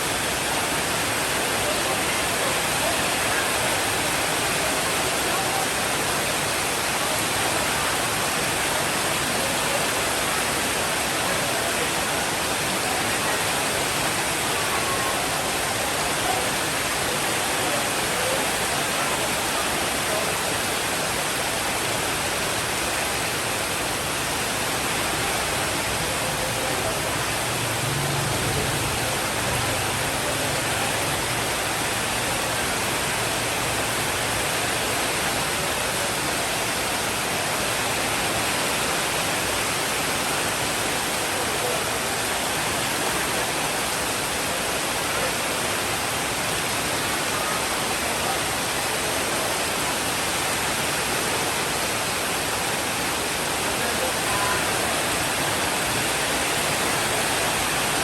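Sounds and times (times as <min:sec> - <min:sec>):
heavy rainfall hiss: 0:00.0 - 0:58.0.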